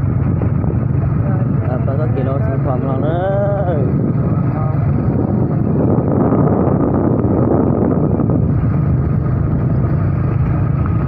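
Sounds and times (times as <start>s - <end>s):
vehicle engine running: 0.0s - 11.0s
wind noise on microphone: 0.0s - 11.0s.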